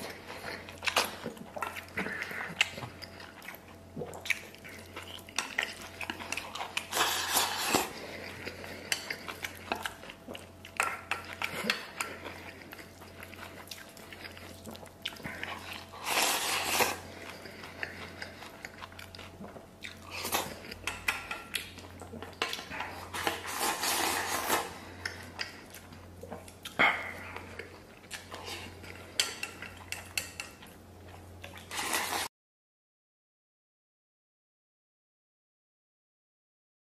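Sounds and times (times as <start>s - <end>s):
chewing: 0.0s - 32.3s.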